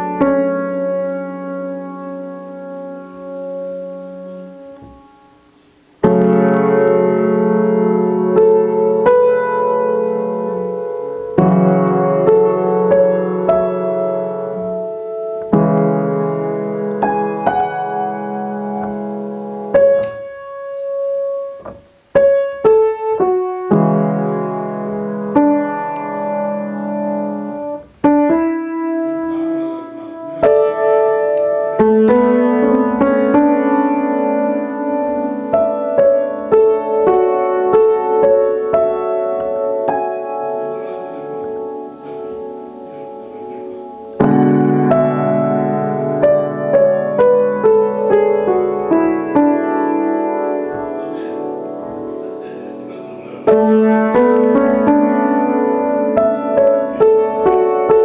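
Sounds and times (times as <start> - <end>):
solo piano chords: 0.0 - 58.0.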